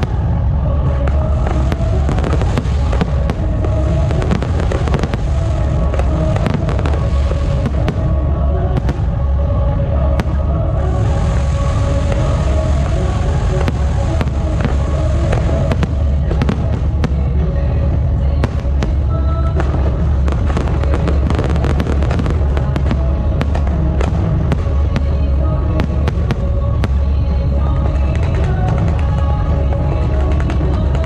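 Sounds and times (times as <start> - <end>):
fireworks cracking and banging: 0.0 - 31.0
loud music: 0.0 - 31.0.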